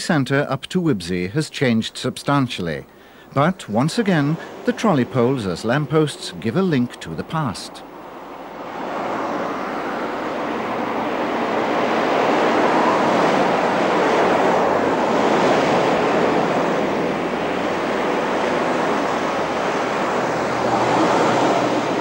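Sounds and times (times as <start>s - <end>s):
road traffic rushing: 1.1s - 22.0s.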